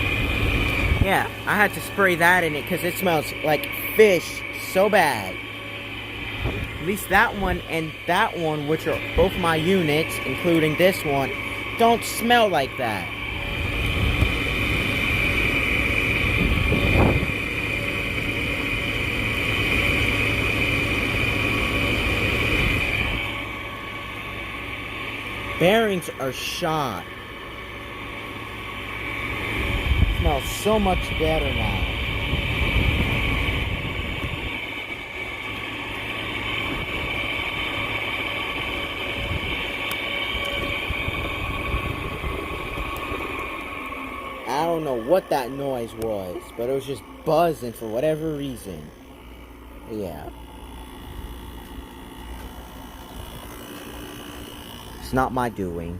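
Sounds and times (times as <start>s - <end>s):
high whine: 0.0s - 55.9s
window air conditioner buzzing: 0.0s - 55.9s.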